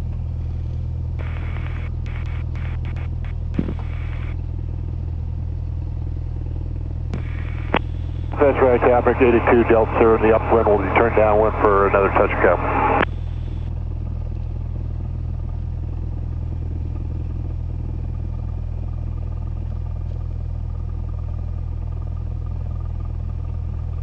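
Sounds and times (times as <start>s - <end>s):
airplane engine and propeller drone: 0.0s - 24.0s.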